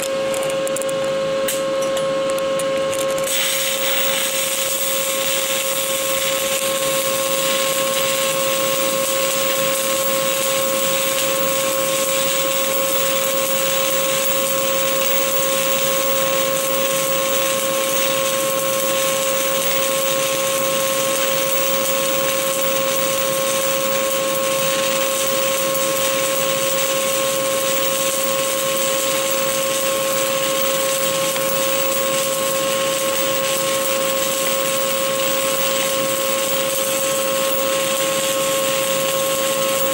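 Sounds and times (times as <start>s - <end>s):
welding arc hissing and crackling: 2.7s - 39.9s.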